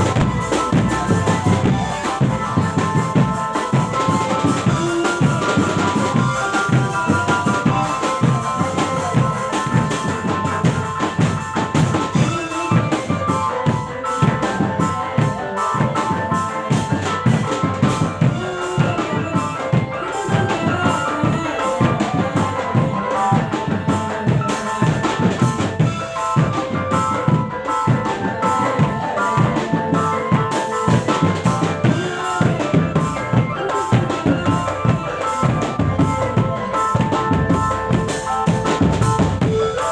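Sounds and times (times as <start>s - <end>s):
drum-led music: 0.0s - 39.9s.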